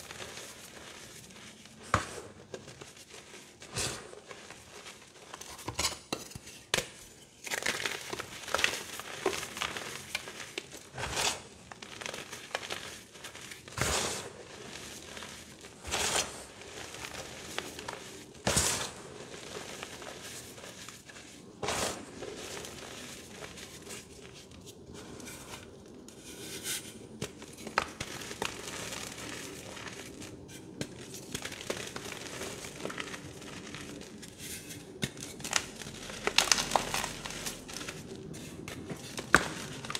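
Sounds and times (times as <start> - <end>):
hands crumbling chalk: 0.0 - 39.9.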